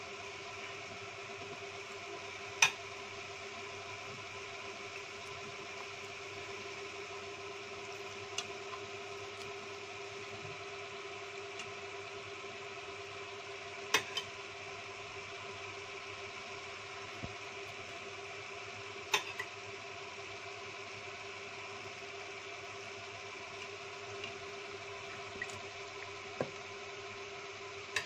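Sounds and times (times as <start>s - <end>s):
machine hum with held tone: 0.0s - 28.0s.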